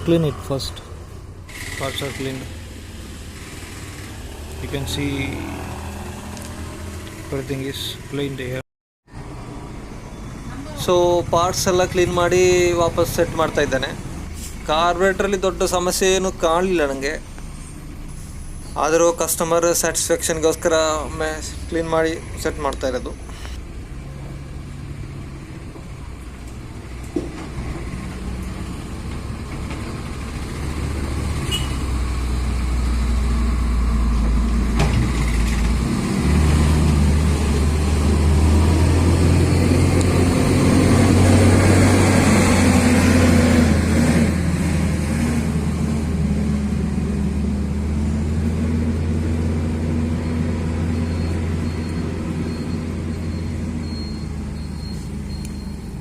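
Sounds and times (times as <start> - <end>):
heavy engine droning: 0.0 - 8.2, 9.2 - 56.0.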